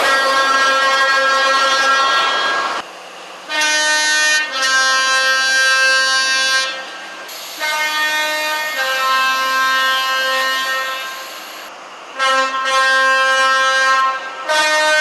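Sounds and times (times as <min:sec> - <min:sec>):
two-tone train air horn blasts: 0:00.0 - 0:02.7, 0:03.5 - 0:06.9, 0:07.6 - 0:11.4, 0:12.2 - 0:15.0.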